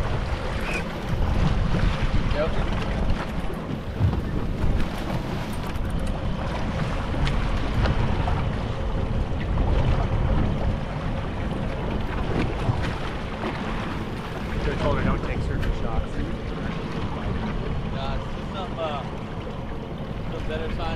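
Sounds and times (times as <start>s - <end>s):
water splashing and lapping: 0.0s - 20.9s
wind buffeting microphone: 0.0s - 20.9s.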